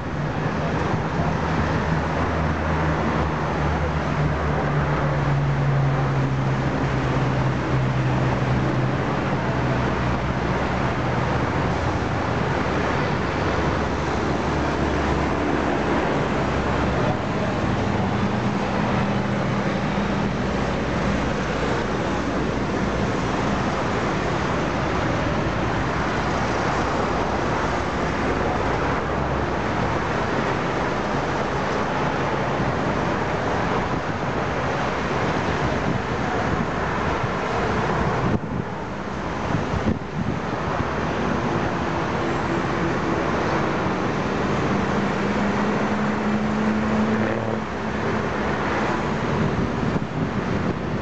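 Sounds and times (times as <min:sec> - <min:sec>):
passing vehicle engine hums: 0:00.0 - 0:51.0
road traffic: 0:00.0 - 0:51.0.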